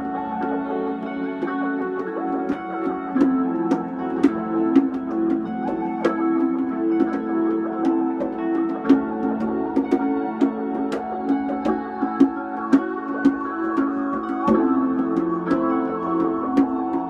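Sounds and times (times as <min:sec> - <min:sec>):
keyboard holding notes: 0:00.0 - 0:17.0
plucked notes: 0:00.0 - 0:17.0.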